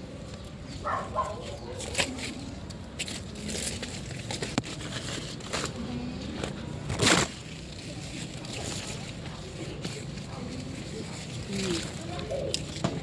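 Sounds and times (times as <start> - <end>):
leafy plants rustling: 0.7 - 13.0.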